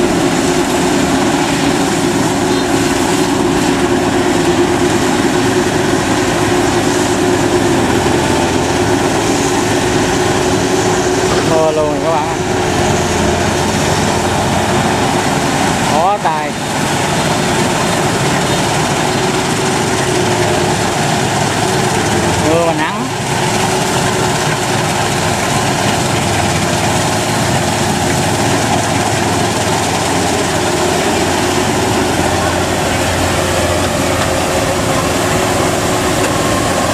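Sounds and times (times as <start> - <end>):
combine harvester running: 0.0 - 36.9.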